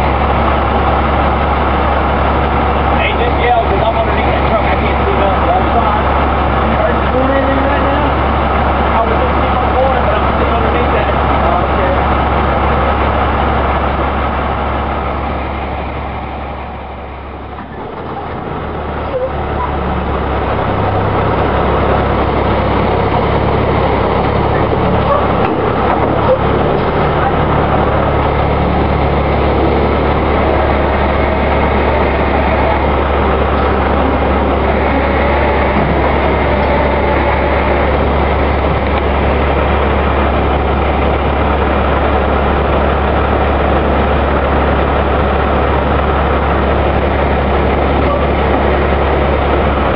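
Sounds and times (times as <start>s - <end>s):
constant low hum: 0.0s - 49.9s
truck engine running: 0.0s - 49.9s.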